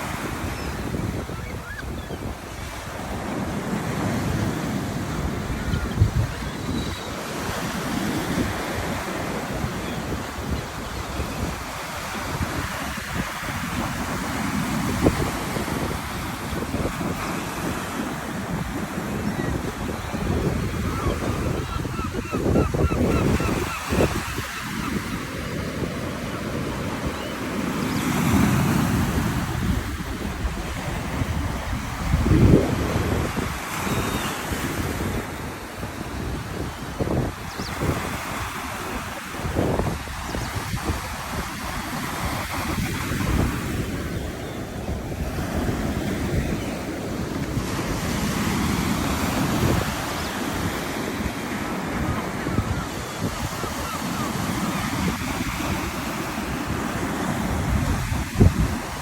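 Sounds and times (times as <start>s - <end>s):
sea waves washing in: 0.0s - 59.0s
wind buffeting microphone: 0.0s - 59.0s.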